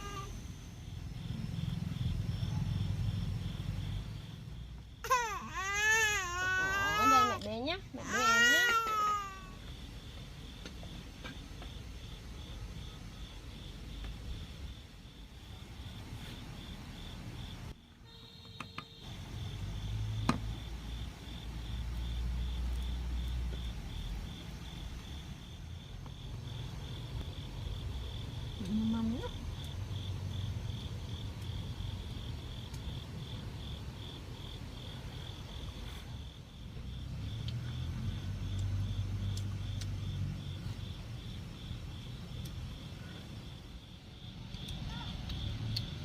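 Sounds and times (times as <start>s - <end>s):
night insects chirping: 0.0s - 46.0s.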